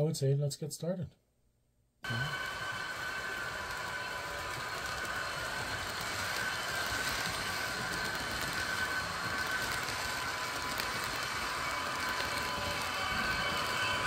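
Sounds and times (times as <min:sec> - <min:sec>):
model train rolling on track: 0:02.1 - 0:14.0.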